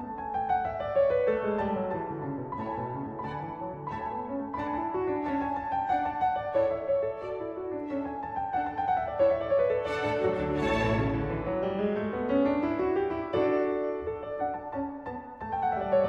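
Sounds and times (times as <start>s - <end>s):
piano and strings classical piece: 0.0s - 16.0s.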